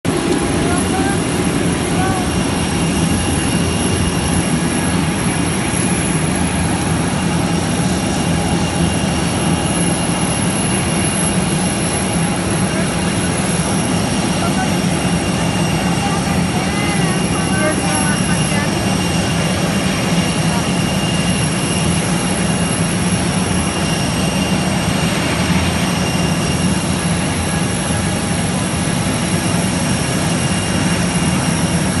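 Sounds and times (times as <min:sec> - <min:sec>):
jet turbine running: 0:00.0 - 0:32.0.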